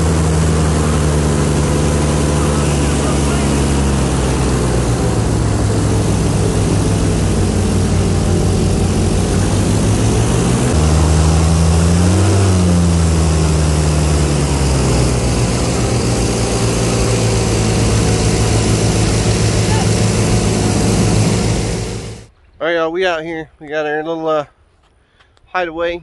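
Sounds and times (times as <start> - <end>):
airboat engine and propeller: 0.0 - 22.3.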